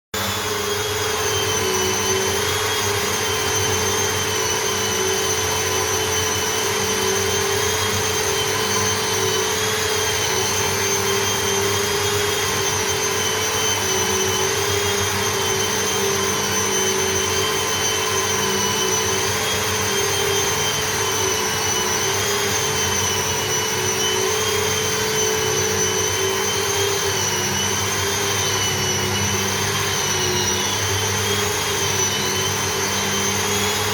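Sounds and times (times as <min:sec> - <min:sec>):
high-speed electric motor whine: 0:00.2 - 0:33.9.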